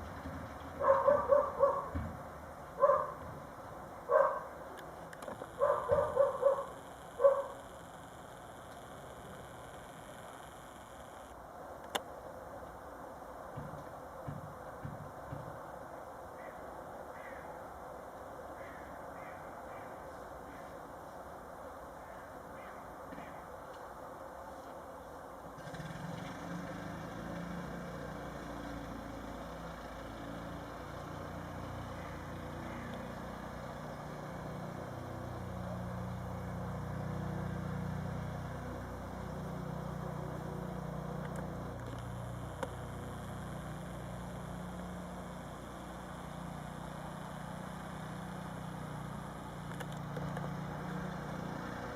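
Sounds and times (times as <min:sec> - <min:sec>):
low mechanical hum: 0:00.0 - 0:51.9.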